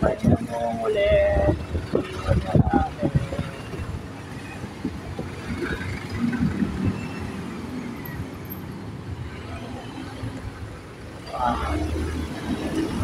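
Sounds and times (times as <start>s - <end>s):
traffic rumble of engines and tyres: 0.0s - 13.0s.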